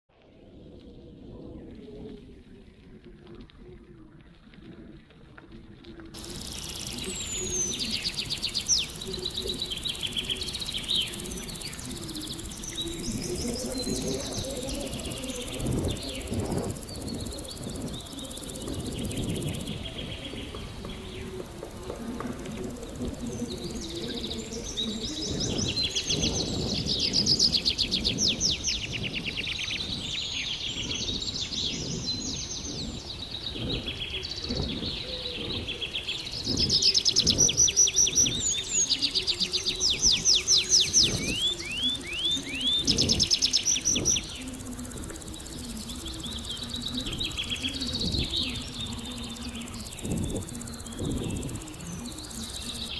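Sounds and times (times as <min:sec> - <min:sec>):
bicycle rolling on a path: 0:00.1 - 0:52.9
birds chirping and singing: 0:06.2 - 0:52.9.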